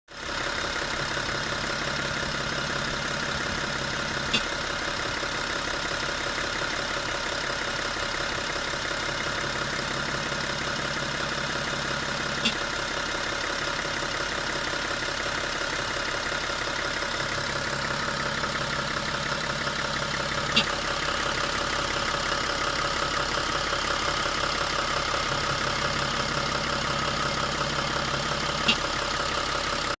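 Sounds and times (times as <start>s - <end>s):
diesel engine idling: 0.1s - 30.0s.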